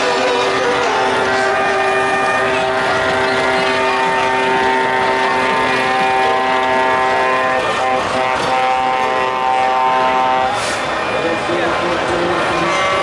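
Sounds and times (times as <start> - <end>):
truck air horns: 0.0 - 11.2, 12.4 - 13.0.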